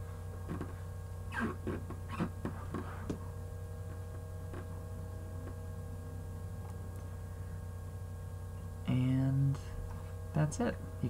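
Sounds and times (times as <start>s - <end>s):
faint steady tones: 0.0s - 11.0s
low electrical hum: 0.0s - 11.0s.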